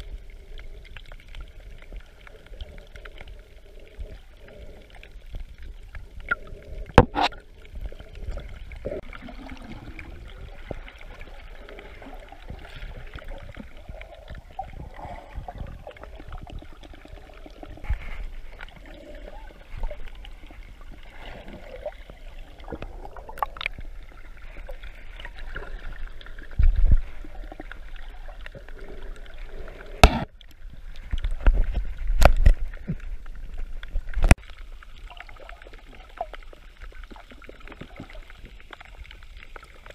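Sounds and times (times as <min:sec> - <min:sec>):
muffled underwater gurgling: 0:00.0 - 0:34.4.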